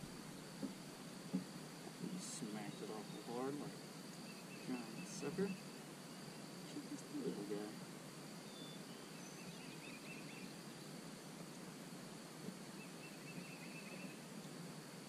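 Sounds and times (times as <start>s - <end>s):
distant songbird twittering: 0.0s - 11.8s, 12.4s - 14.7s
steady background hiss: 0.0s - 15.0s.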